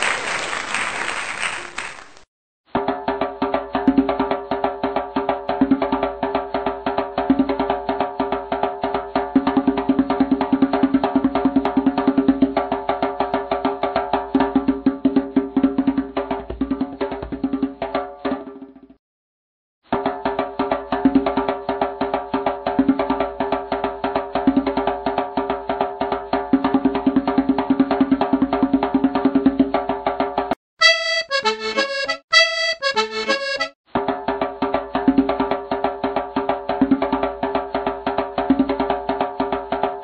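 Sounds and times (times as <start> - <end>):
rapid percussion: 0.0 - 18.6, 19.9 - 40.0.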